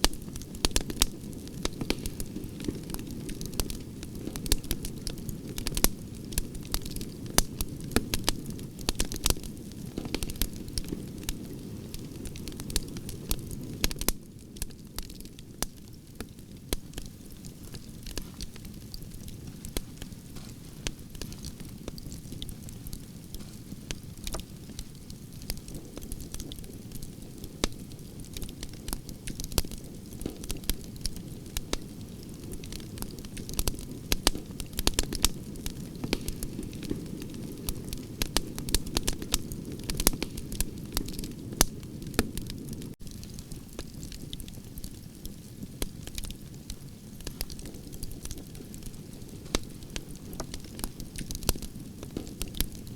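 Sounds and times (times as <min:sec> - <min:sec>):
low fire rumble: 0:00.0 - 0:52.9
wood fire crackling: 0:00.0 - 0:52.9.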